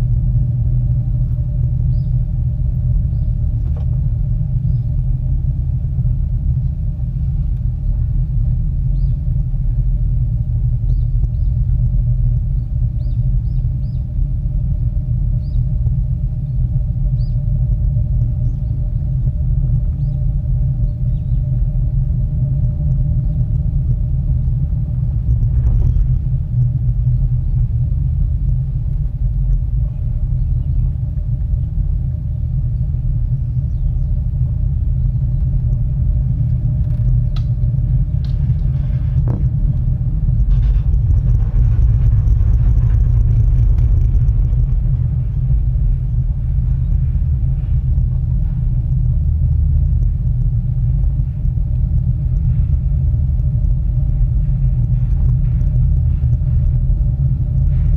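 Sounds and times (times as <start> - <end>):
gondola cabin rumble and hum: 0.0 - 57.9.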